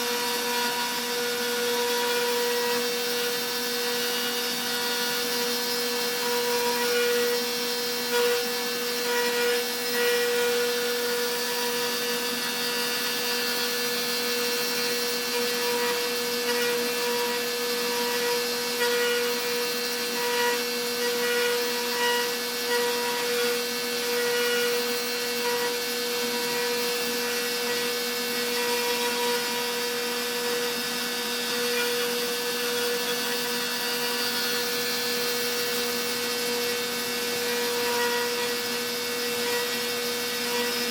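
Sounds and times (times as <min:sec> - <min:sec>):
bit rasping through wood: 0:00.0 - 0:40.9
router spindle whine: 0:00.0 - 0:40.9.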